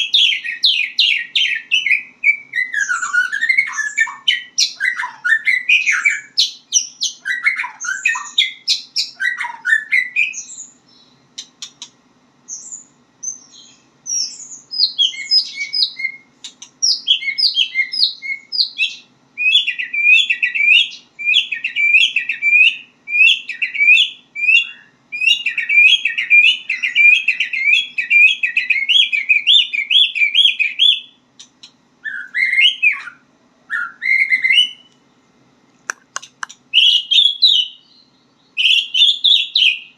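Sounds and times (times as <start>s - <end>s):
bird singing whistles and chirps: 0.0s - 11.8s, 12.5s - 31.2s, 32.0s - 35.0s, 36.7s - 39.9s.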